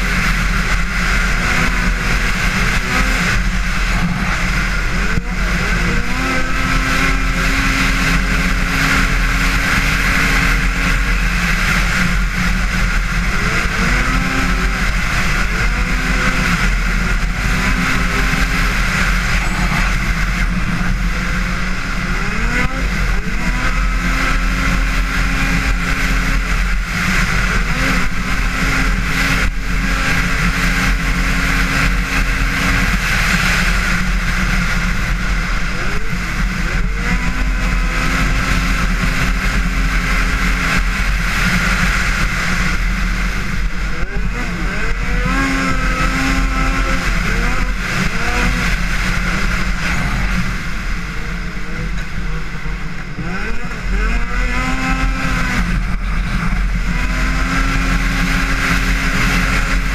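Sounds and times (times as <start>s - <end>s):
snowmobile engine running hard: 0.0s - 59.9s.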